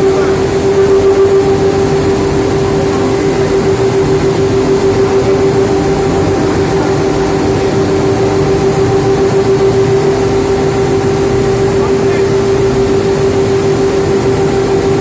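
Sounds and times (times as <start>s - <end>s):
carding machines humming: 0.0s - 15.0s.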